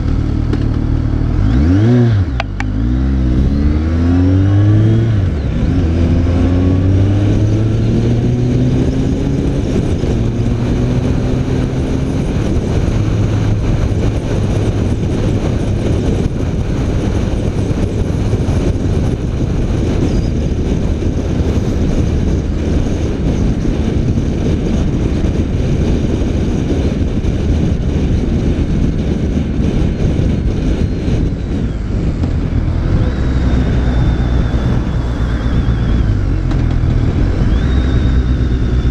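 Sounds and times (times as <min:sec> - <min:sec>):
motorcycle engine cruising: 0:00.0 - 0:38.9
road rush: 0:00.0 - 0:38.9
wind noise: 0:00.0 - 0:38.9.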